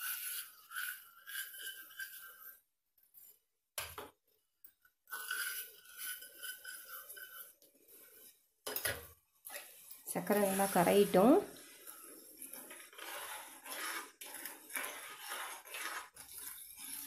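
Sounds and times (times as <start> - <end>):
sugar pouring: 0.0 - 2.6, 5.1 - 8.8, 9.6 - 17.0.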